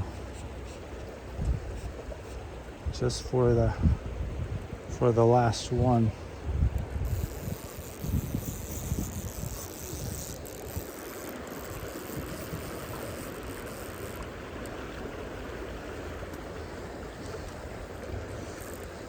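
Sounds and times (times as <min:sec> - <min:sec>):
stream running: 0:00.0 - 0:19.0
wind rumble on microphone: 0:00.0 - 0:19.0.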